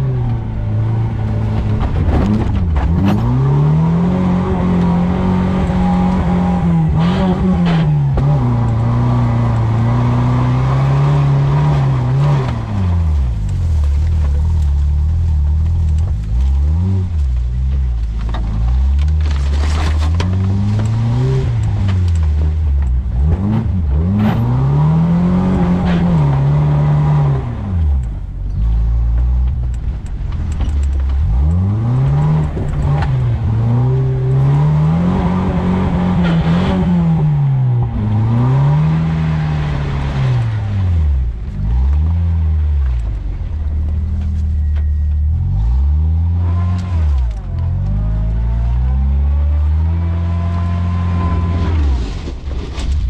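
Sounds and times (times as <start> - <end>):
truck engine revving: 0.0 - 52.4.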